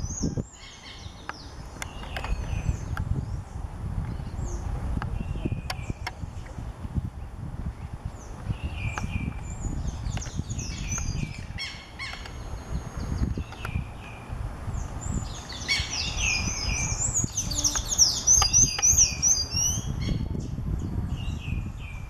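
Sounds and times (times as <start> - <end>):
small birds chirping: 0.0 - 6.6, 7.2 - 22.0
low steady rumble: 0.0 - 22.0.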